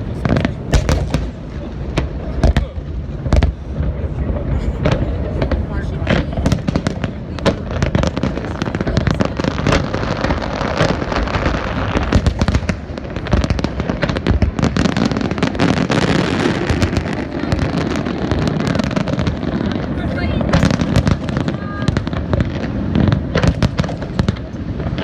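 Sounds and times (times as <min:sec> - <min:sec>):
fireworks bursts and crackles: 0:00.0 - 0:25.0.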